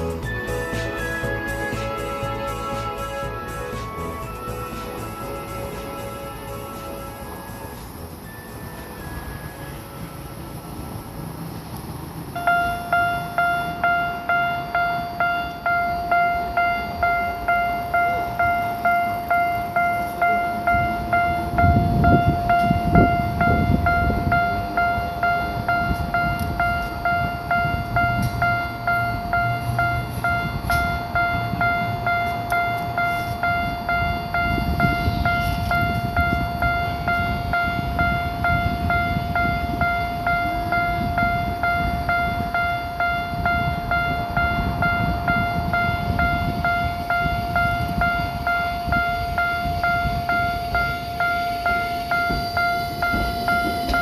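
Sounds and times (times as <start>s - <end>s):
train brake squeal: 0.0s - 11.1s, 12.4s - 54.0s
railroad crossing warning bell: 0.0s - 54.0s
subway train rumbling: 0.0s - 54.0s.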